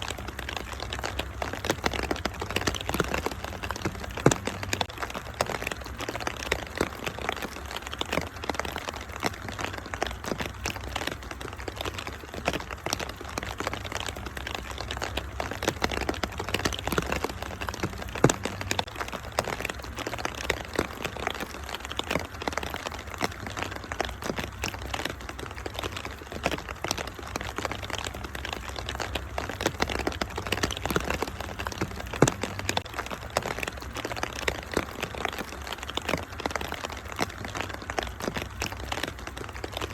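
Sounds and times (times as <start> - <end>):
rain hissing: 0.0 - 39.9
wood fire crackling: 0.0 - 39.9.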